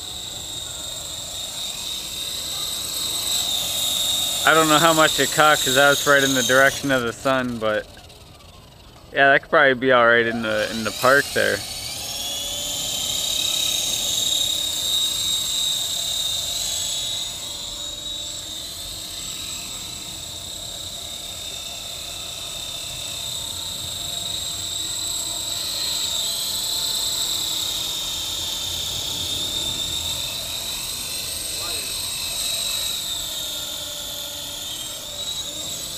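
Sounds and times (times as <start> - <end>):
remote-control helicopter whine: 0.0 - 35.9.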